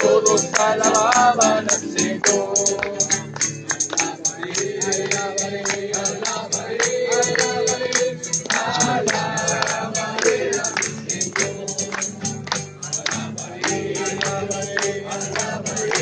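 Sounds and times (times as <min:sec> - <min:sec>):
group singing a hymn: 0:00.0 - 0:16.0
jingling percussion beat: 0:00.0 - 0:16.0.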